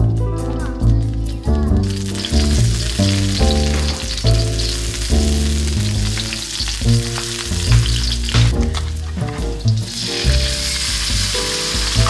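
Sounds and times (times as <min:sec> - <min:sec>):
melodic background music: 0:00.0 - 0:12.0
garlic sizzling in hot oil: 0:01.1 - 0:12.0.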